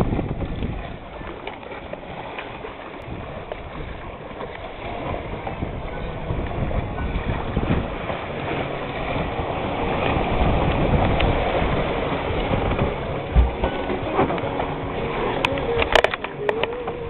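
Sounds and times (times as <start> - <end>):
water splashing along boat hull: 0.0 - 17.0
wind rumbling on microphone: 0.0 - 17.0.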